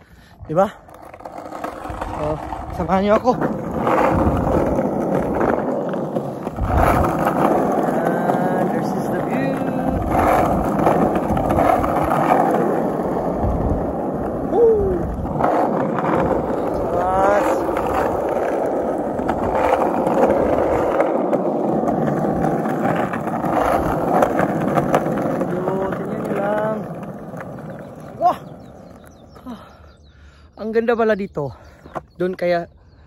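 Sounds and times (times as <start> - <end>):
skateboard wheels rolling on asphalt: 0.0 - 33.0.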